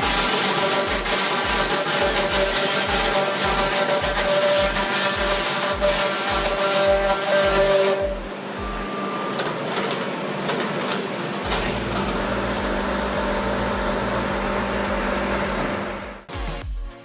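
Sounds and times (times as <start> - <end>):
low rhythmic pulsing: 0.0 - 9.4, 11.1 - 16.9
industrial machine running: 0.0 - 16.2.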